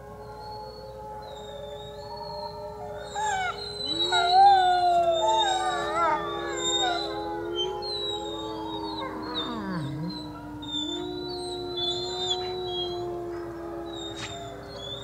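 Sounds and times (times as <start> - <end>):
wolves howling: 0.0 - 15.0.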